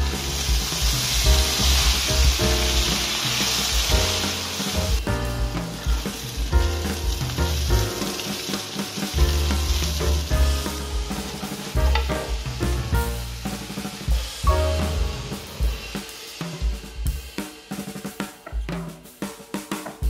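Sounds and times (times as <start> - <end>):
vegetables sizzling in oil: 0.0 - 16.3
background music: 0.0 - 20.0.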